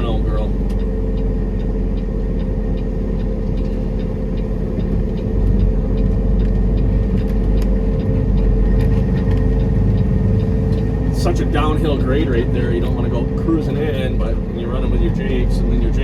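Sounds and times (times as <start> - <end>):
truck diesel engine drone: 0.0 - 16.0.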